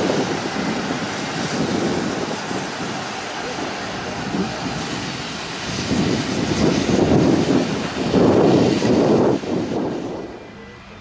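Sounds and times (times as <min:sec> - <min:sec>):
locomotive engine and exhaust: 0:00.0 - 0:11.0.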